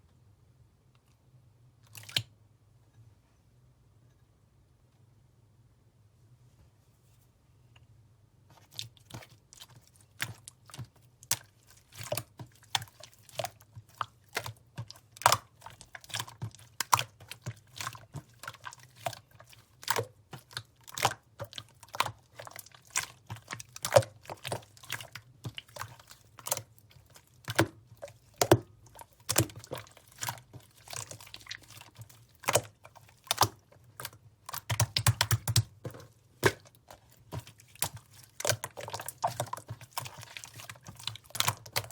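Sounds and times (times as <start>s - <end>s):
slime squished by hand: 1.9s - 2.3s, 8.5s - 41.9s.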